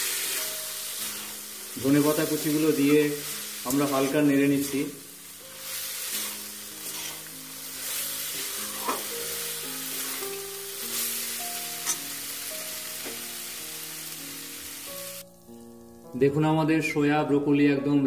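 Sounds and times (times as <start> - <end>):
vegetables sizzling in a pan: 0.0 - 16.0
soft background music: 0.0 - 18.0.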